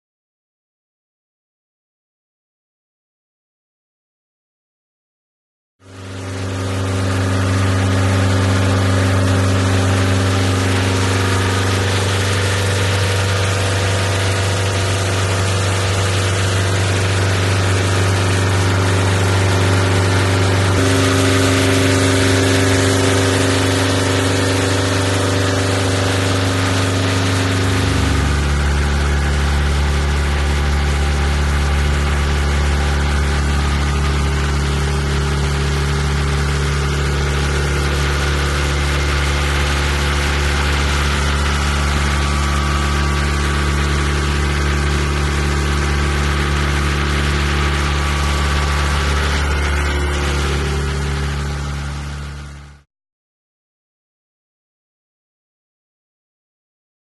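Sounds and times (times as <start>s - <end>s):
diesel engine running: 5.8s - 52.8s.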